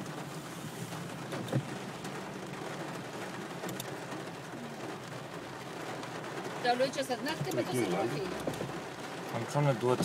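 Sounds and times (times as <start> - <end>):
car running noise from inside: 0.0 - 10.0
rain on car: 0.0 - 10.0.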